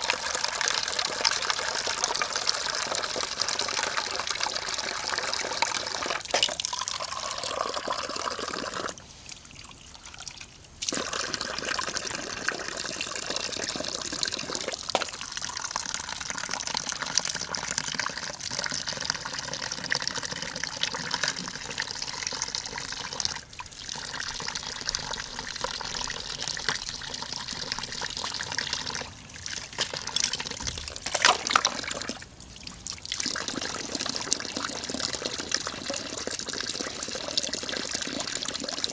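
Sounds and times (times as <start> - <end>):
pot of broth bubbling: 0.0 - 38.9.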